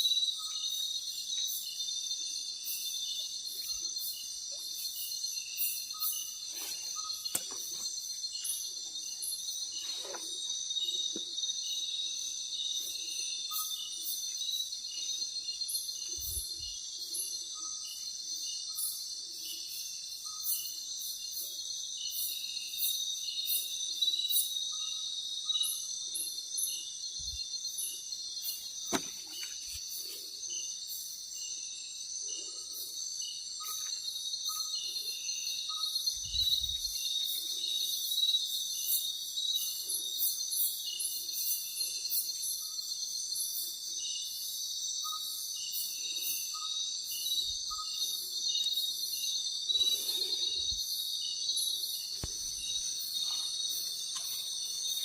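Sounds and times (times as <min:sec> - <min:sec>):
repeated insect chirp: 0:00.0 - 0:55.0.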